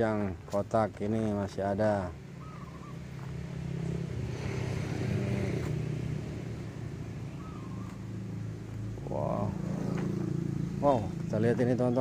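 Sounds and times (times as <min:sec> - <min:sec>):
vehicle engine running: 0:01.3 - 0:12.0.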